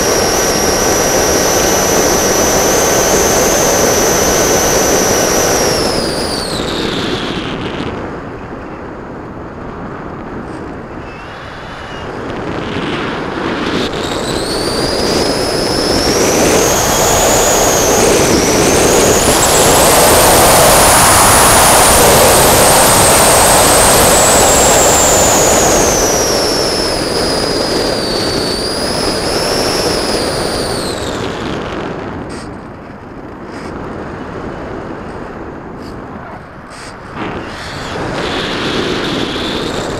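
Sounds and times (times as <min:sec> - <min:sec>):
electric motor and propeller whining: 0:00.0 - 0:08.0, 0:09.9 - 0:39.9.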